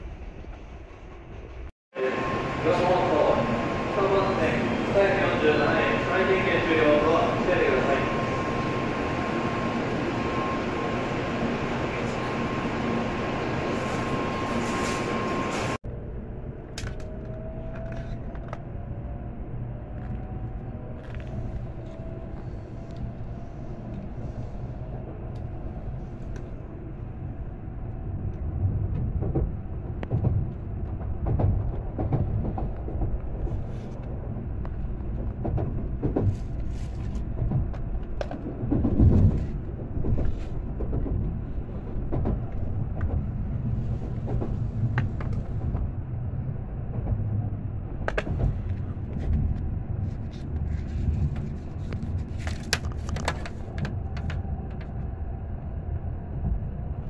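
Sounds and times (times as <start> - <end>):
train rumble from inside carriage: 0.0 - 57.0.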